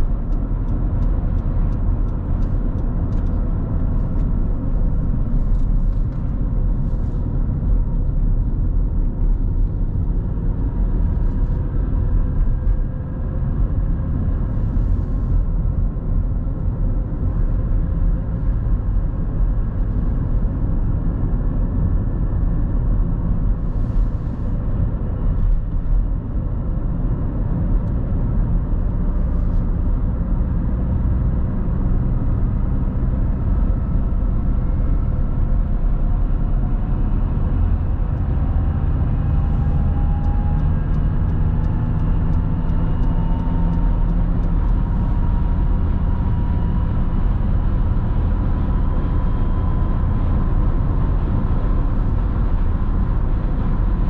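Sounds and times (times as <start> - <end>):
car tyre and engine rumble: 0.0 - 54.0.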